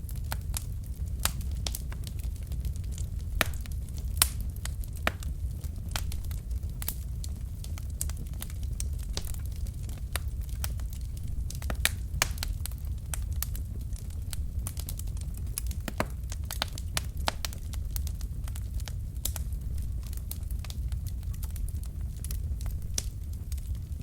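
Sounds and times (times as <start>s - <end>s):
fire crackling: 0.0s - 24.0s
low rumble of flames: 0.0s - 24.0s.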